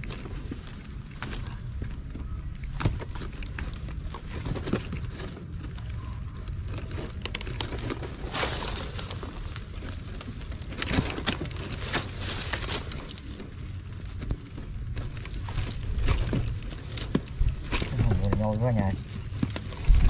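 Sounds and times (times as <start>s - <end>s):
bag and basket rustling: 0.0s - 20.0s
steady low rumble: 0.0s - 20.0s.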